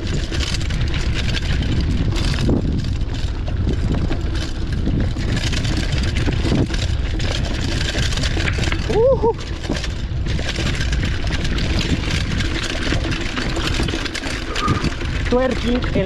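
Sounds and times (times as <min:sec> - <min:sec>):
bike rattling: 0:00.0 - 0:16.0
tyres crunching over stones: 0:00.0 - 0:16.0
wind on microphone: 0:00.0 - 0:16.0.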